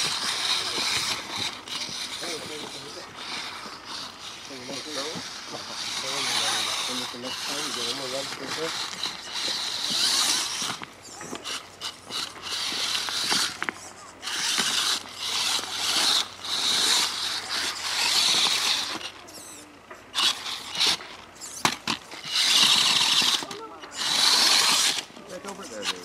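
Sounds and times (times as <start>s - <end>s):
toy truck motor whirring: 0.0s - 26.0s.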